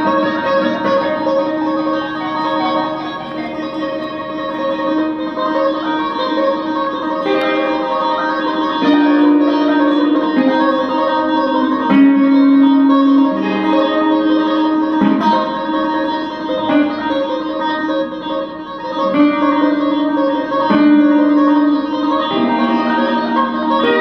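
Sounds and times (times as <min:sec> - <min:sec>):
electric guitar tapping notes: 0:00.0 - 0:24.0.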